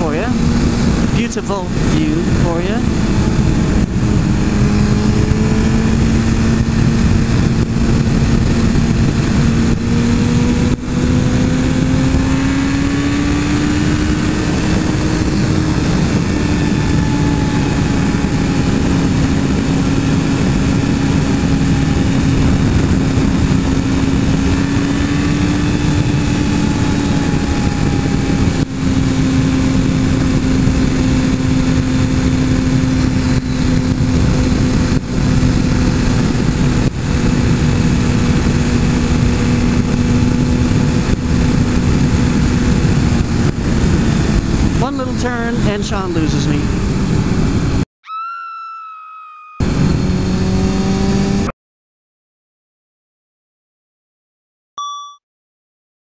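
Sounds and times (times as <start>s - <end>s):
motorcycle engine running: 0.0s - 47.8s, 49.6s - 51.5s
heavy wind noise: 0.0s - 47.9s, 49.6s - 51.5s.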